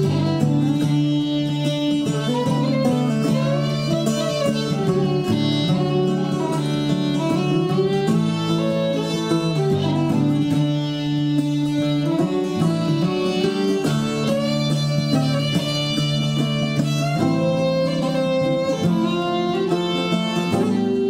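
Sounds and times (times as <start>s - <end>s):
folk fiddle: 0.0s - 21.0s
plucked guitar: 0.0s - 21.0s.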